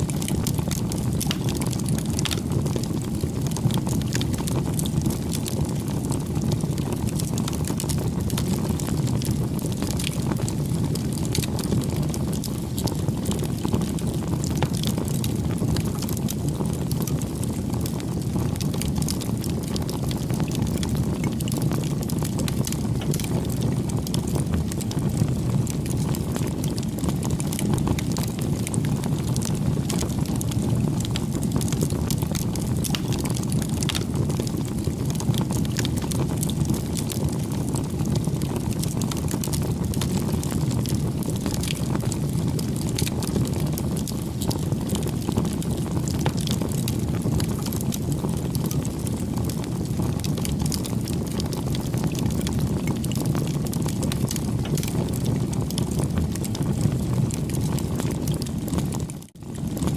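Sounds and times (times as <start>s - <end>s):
burning wood crackling and popping: 0.0s - 59.9s
campfire flames rushing: 0.0s - 59.9s.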